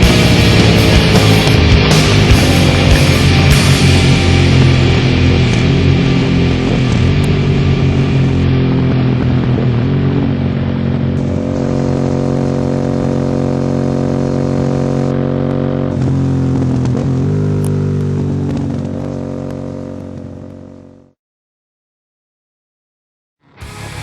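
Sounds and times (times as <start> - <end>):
motorcycle engine running: 0.0 - 21.2, 23.5 - 24.0.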